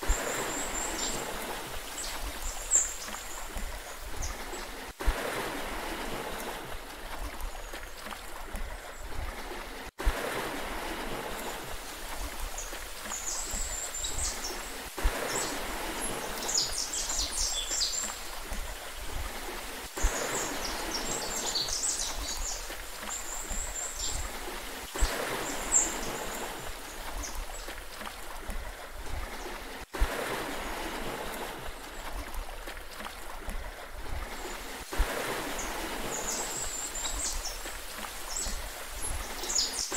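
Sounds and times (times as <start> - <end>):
sea water lapping: 0.0 - 39.9.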